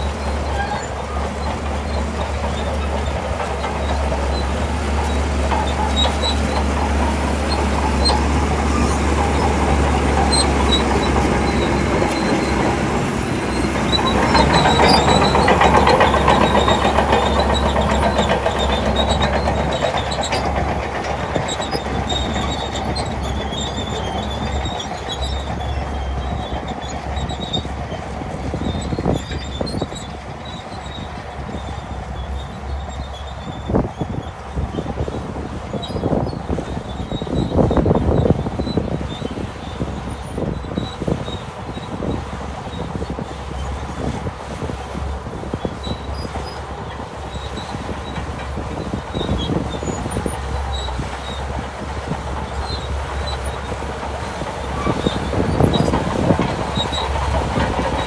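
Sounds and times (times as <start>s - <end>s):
bulldozer diesel engine under load: 0.0s - 58.0s
steel tracks clanking and squealing: 0.0s - 58.0s.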